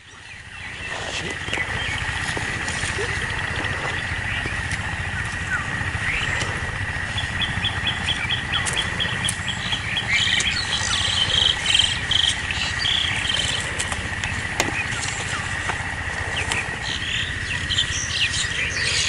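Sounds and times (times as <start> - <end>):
birds chirping and warbling: 0.0 - 19.0
insects droning: 0.0 - 19.0.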